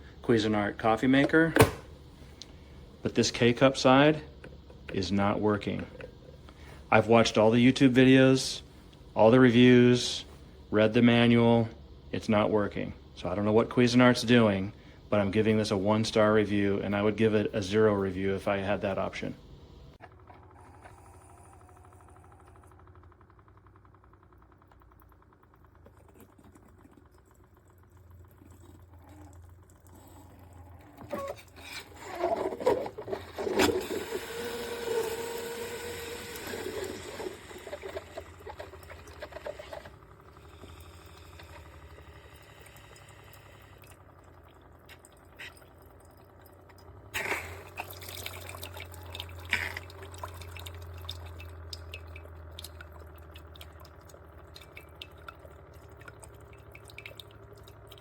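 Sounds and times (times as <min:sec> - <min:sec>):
coffee maker water gurgling: 0:00.0 - 0:58.0
low hum: 0:00.0 - 0:58.0.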